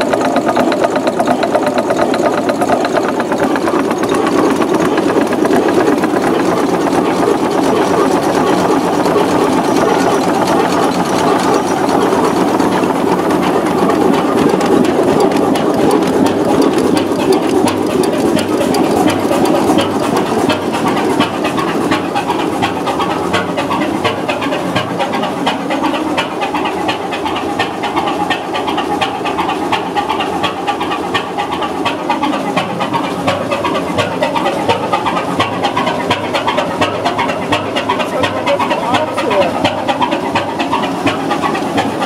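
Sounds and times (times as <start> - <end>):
diesel engine knocking steadily: 0.0 - 42.0.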